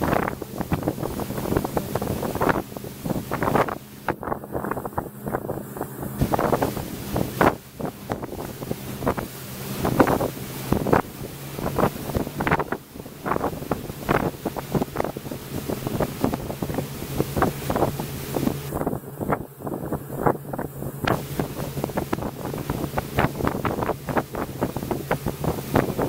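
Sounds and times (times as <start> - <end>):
boat engine running: 0.0 - 26.0
water rushing from wake: 0.0 - 26.0
wind buffeting microphone: 0.0 - 26.0.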